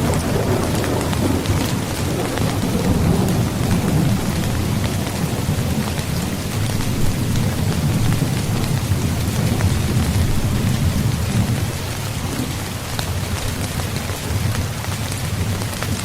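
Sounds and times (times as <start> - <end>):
heavy rain: 0.0 - 16.0
low rumble of thunder: 0.0 - 16.0.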